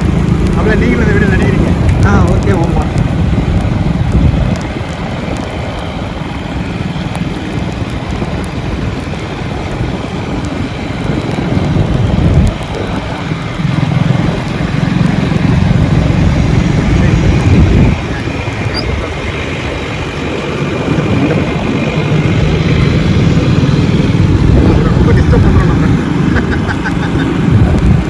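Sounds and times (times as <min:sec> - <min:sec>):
motorcycle engine: 0:00.0 - 0:28.0
road noise: 0:00.0 - 0:28.0
wind buffeting microphone: 0:00.0 - 0:28.0.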